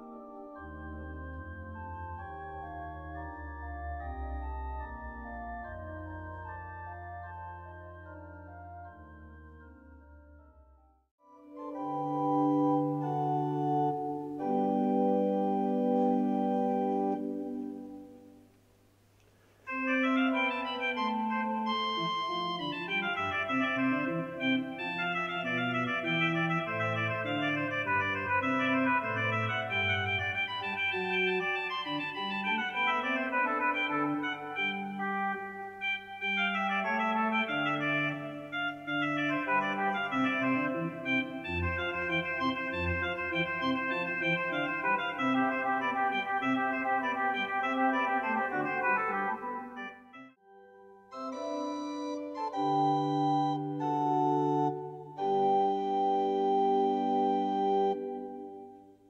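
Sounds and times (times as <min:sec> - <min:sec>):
organ playing: 0:00.0 - 0:10.4, 0:11.4 - 0:18.4, 0:19.7 - 0:50.3, 0:51.0 - 0:58.8
deep organ pedal notes: 0:00.0 - 0:10.6, 0:11.7 - 0:18.1, 0:19.9 - 0:49.1, 0:51.2 - 0:58.6.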